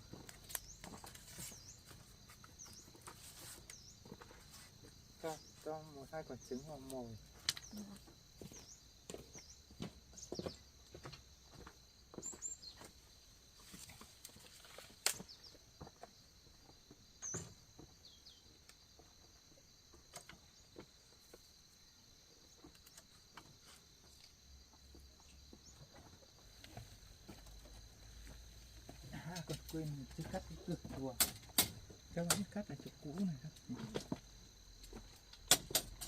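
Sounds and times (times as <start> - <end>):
high insect hum: 0.0 - 36.0.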